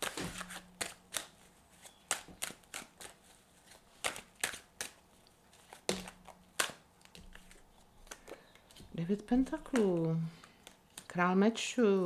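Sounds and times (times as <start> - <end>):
cards snapping and slapping: 0.0 - 11.1.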